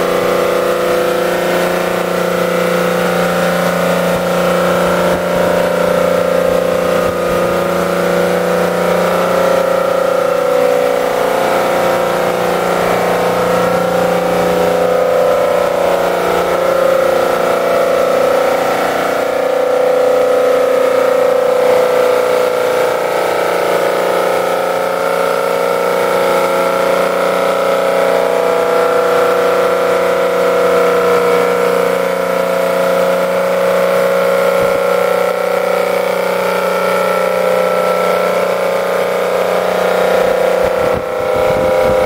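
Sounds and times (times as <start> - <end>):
car engine running under load: 0.0 - 42.0.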